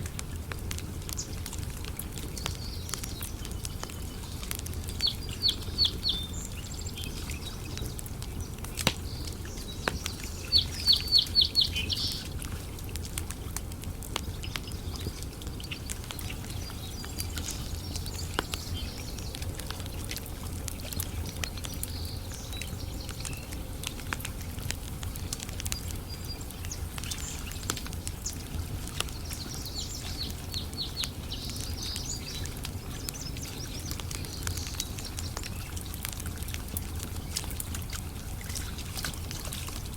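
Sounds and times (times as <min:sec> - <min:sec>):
campfire crackling: 0:00.0 - 0:39.9
birds chirping: 0:02.2 - 0:12.8, 0:14.2 - 0:36.1.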